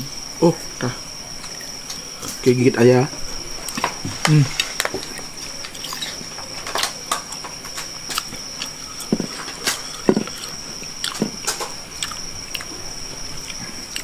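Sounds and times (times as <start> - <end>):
high-pitched whine: 0.0 - 14.0.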